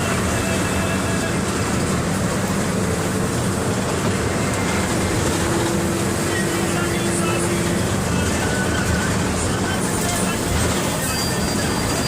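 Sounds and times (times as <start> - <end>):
diesel bus engine rumbling: 0.0 - 12.0.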